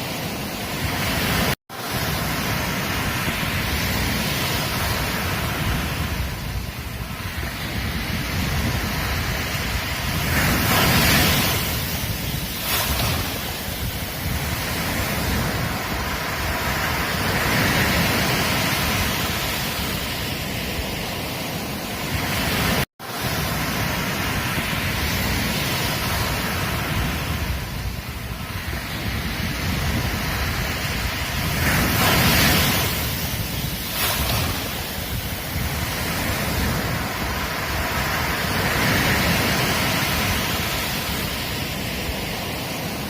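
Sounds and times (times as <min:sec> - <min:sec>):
ocean surf washing onto beach: 0:00.0 - 0:43.0.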